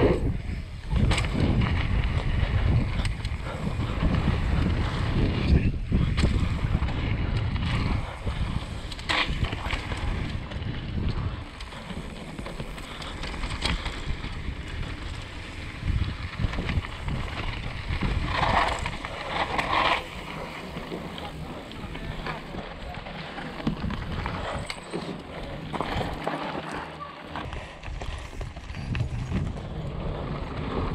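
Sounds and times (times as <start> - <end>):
wind buffeting microphone: 0.0 - 26.4, 27.3 - 30.9
bike clattering over bumps: 0.0 - 30.9
bike tyre rumble: 0.0 - 30.9.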